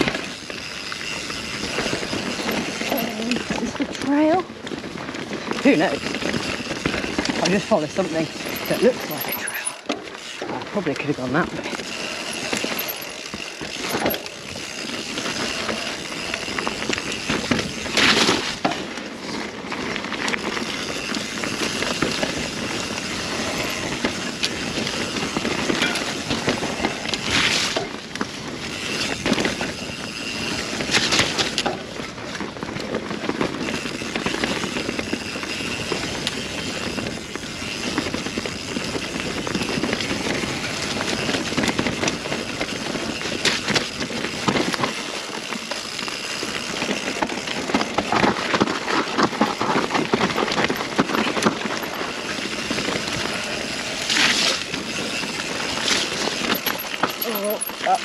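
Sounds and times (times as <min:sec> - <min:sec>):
bike jolts: 0:00.0 - 0:58.0
mountain bike tyres and rattle: 0:00.0 - 0:58.0.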